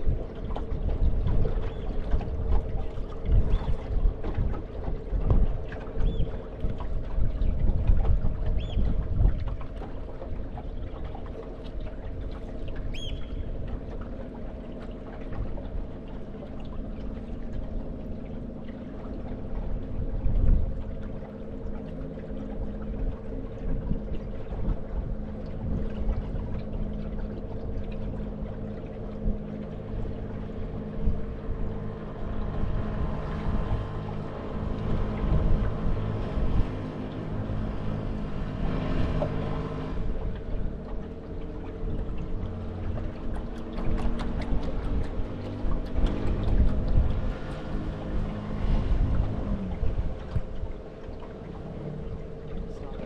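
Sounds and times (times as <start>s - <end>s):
boat motor humming: 0.0s - 53.0s.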